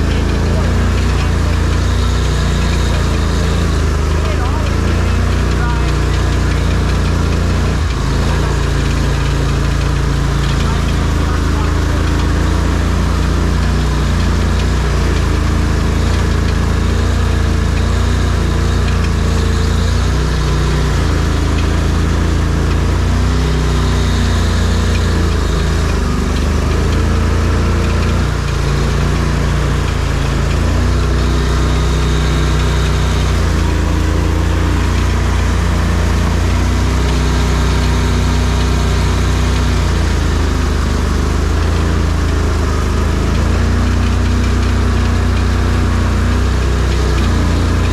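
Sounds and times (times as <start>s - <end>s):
off-road vehicle engine running: 0.0s - 47.9s.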